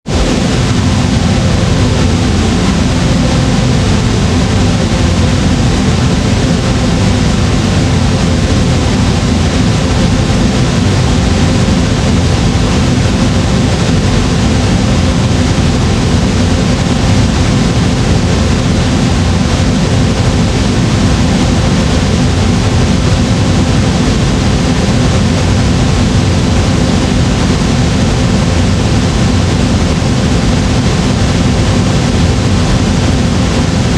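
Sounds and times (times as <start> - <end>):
flamethrower roar: 0.1 - 33.9.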